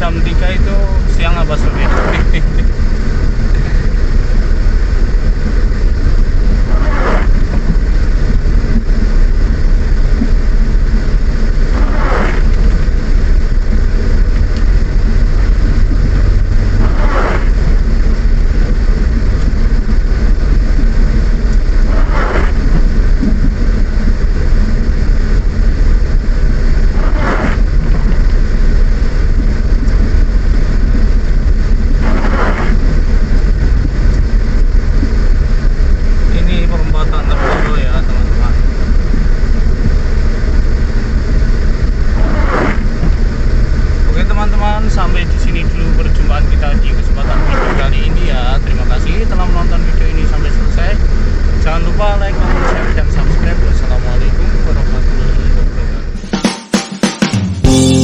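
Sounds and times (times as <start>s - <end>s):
windscreen wipers swishing: 0.0s - 56.0s
engine and tyres rumbling: 0.0s - 56.2s.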